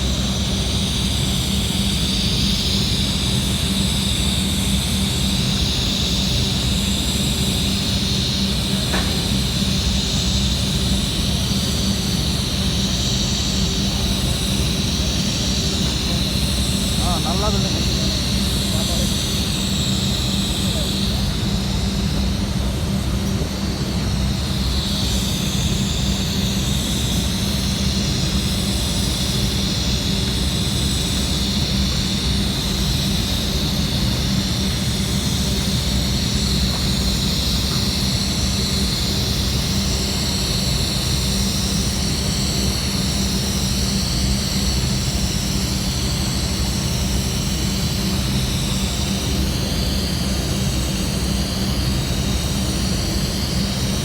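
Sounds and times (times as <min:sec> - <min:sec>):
machine drone with high whine: 0:00.0 - 0:54.0.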